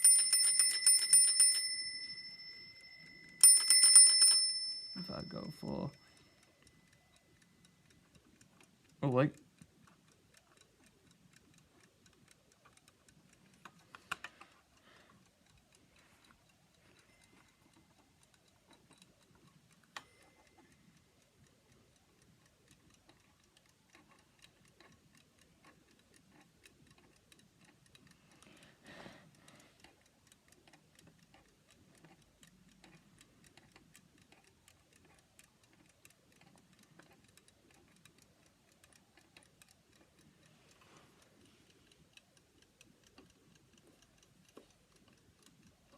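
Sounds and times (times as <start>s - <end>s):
alarm clock ticking: 0.0s - 45.9s.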